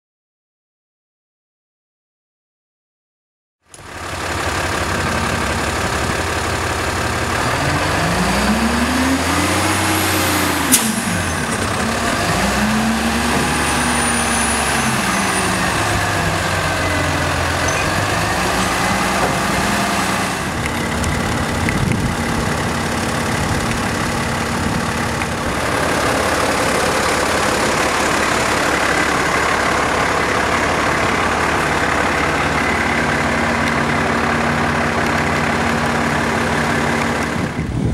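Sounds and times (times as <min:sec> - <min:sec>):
diesel truck engine revving: 0:03.7 - 0:37.9.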